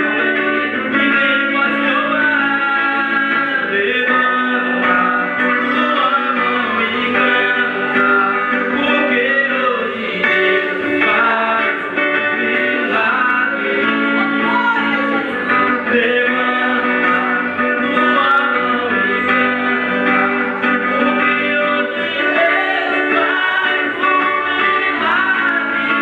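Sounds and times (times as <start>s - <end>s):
guitar chords: 0.0s - 26.0s
person singing: 0.0s - 26.0s.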